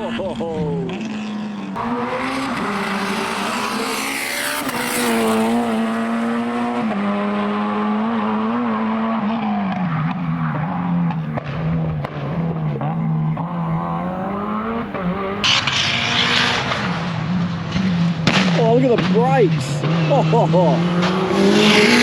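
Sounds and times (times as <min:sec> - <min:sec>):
rally car engine passing: 0:00.0 - 0:22.0.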